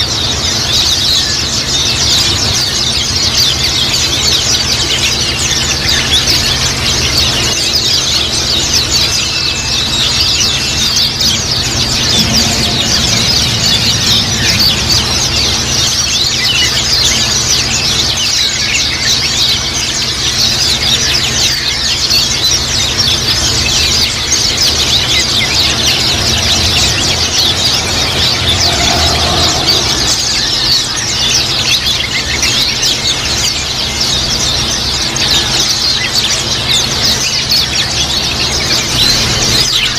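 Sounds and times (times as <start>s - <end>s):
birds twittering: 0.0s - 39.9s
low hum: 0.1s - 33.6s.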